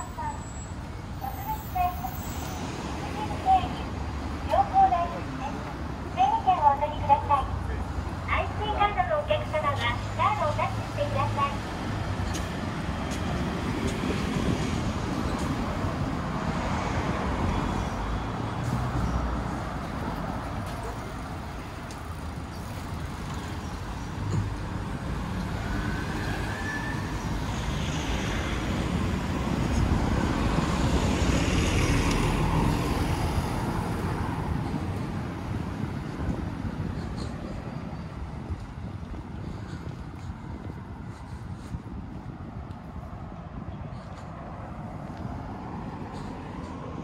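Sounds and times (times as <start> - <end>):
street traffic: 0.0 - 47.0.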